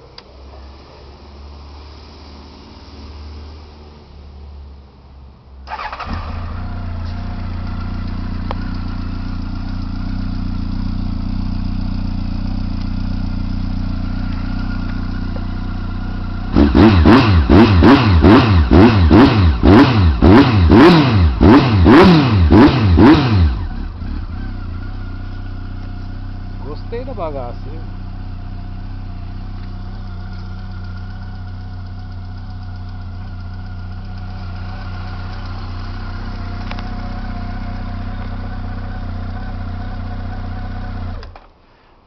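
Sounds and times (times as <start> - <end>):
motorcycle starting and idling: 5.6 - 42.0
motorcycle throttle revving: 5.7 - 41.5.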